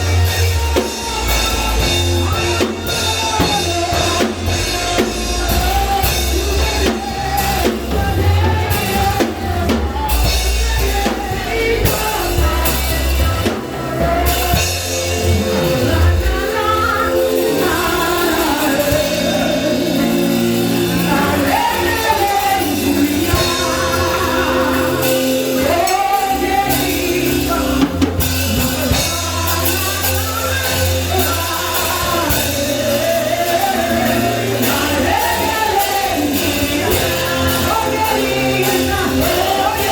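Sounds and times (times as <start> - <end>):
band playing: 0.0 - 39.9
drum kit: 0.0 - 39.9
people singing: 0.0 - 39.9.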